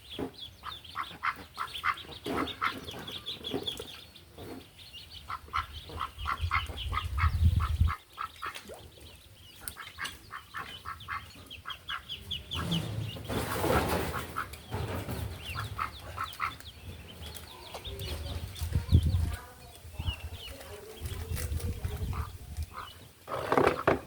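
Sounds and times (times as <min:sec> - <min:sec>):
chicks peeping: 0:00.0 - 0:23.9.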